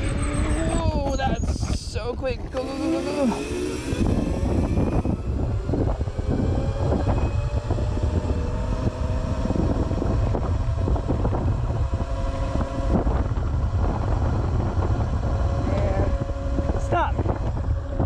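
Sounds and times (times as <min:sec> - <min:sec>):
electric motor whine: 0:00.0 - 0:18.0
wind over microphone: 0:00.0 - 0:18.0.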